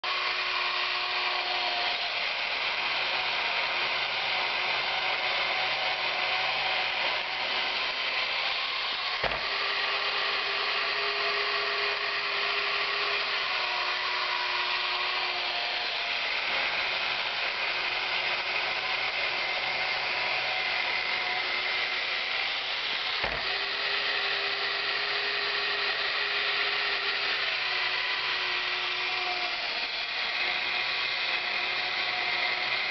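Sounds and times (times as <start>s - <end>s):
toy motor whirring: 0.0s - 32.9s.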